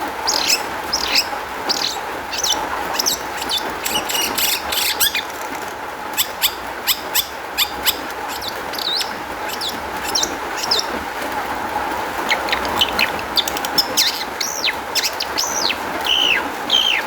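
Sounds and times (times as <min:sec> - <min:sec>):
shrike singing: 0:00.0 - 0:11.1, 0:12.2 - 0:17.0.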